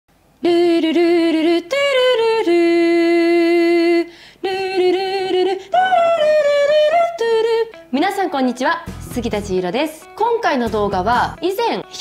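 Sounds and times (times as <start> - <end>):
person singing unaccompanied: 0.4 - 12.0.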